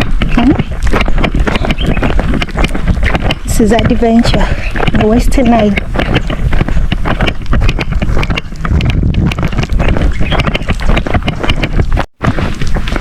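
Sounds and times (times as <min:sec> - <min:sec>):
sharp knocks and rattles: 0:00.0 - 0:13.0
wind buffeting microphone: 0:00.0 - 0:13.0.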